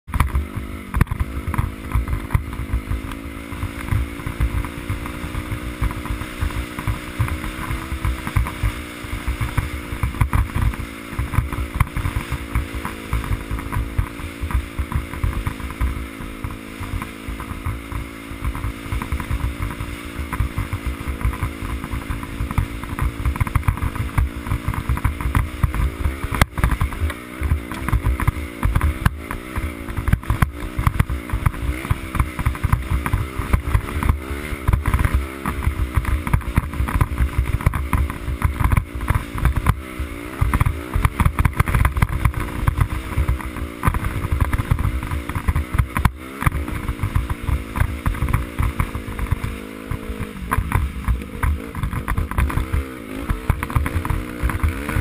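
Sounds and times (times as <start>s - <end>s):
dirt bike engine cruising: 0.0s - 55.0s.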